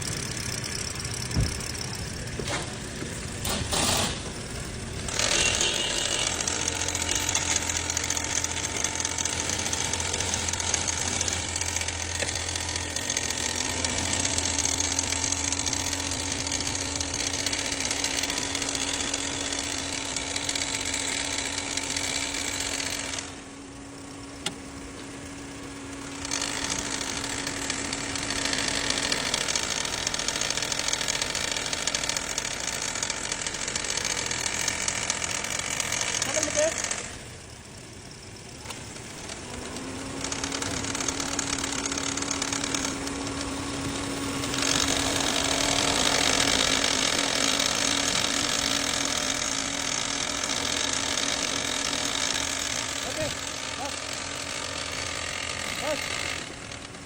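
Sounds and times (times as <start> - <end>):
vehicle engine clattering: 0.0 - 57.0.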